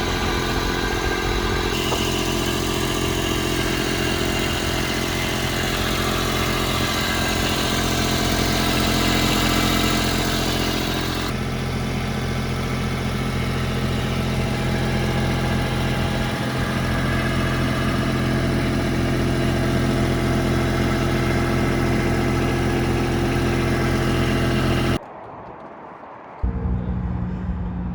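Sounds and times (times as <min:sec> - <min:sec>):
loader engine running: 0:00.0 - 0:25.0.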